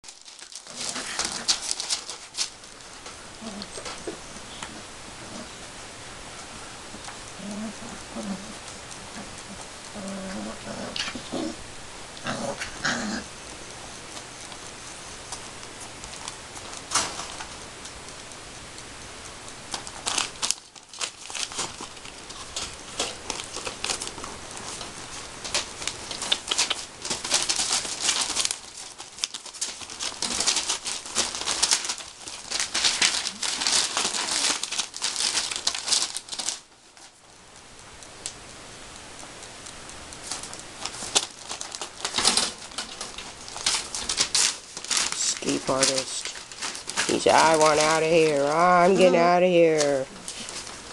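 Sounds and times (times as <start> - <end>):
paper crinkling under paws: 0.0 - 4.8, 12.6 - 38.4, 39.2 - 50.9.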